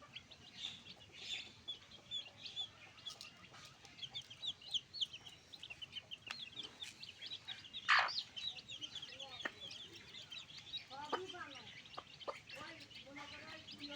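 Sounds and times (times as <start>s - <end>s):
chickens peeping: 0.0s - 13.9s.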